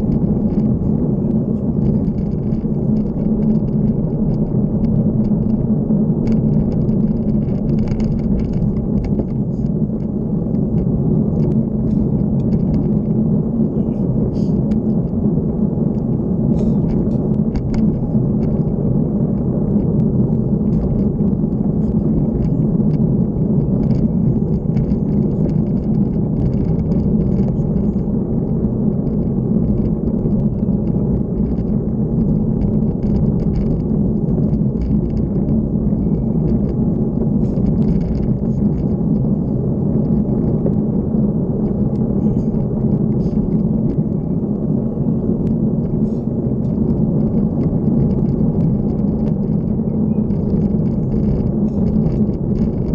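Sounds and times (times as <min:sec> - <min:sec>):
bike running noise on road: 0:00.0 - 0:52.9
wind rumble: 0:00.0 - 0:52.9.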